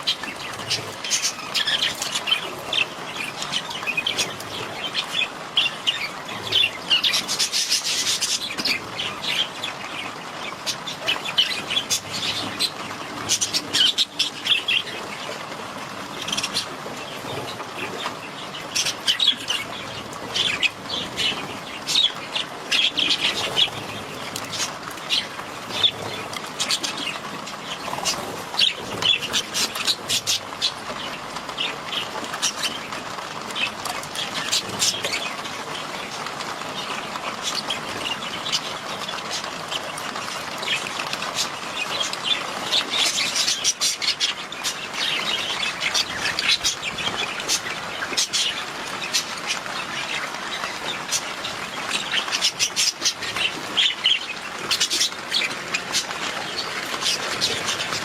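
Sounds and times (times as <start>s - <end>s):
budgerigars chirping: 0.0s - 15.5s, 16.1s - 58.0s.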